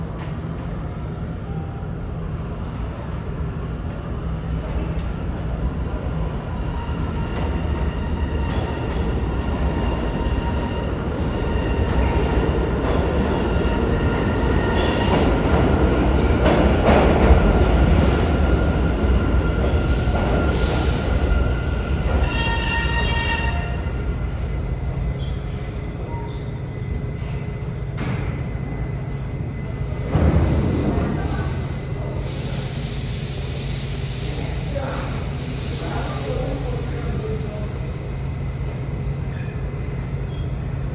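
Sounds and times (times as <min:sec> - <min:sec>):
subway train rumbling: 0:00.0 - 0:40.9.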